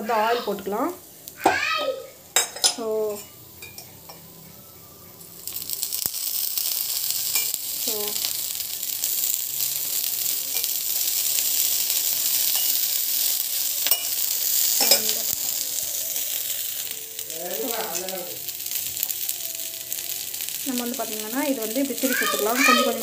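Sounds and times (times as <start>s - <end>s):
cutlets sizzling in oil: 0.0s - 23.0s.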